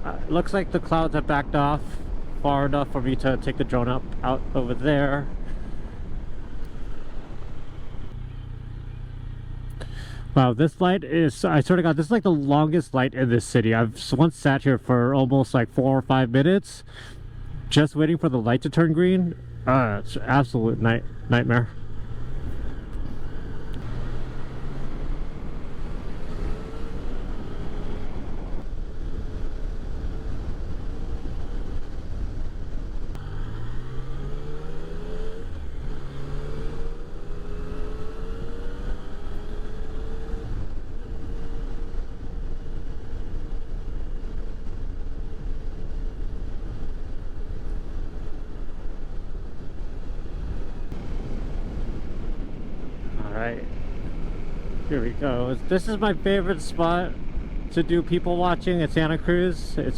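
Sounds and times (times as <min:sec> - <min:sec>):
wind noise rumble: 0:00.0 - 0:08.8, 0:10.0 - 0:59.9
motorcycle engine accelerating: 0:00.0 - 0:10.7, 0:16.9 - 0:59.9.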